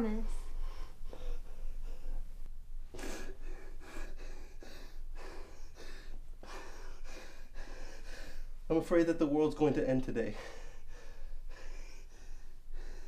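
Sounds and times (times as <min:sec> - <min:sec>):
man breathing fast and hard: 0:00.3 - 0:08.7, 0:10.3 - 0:13.0.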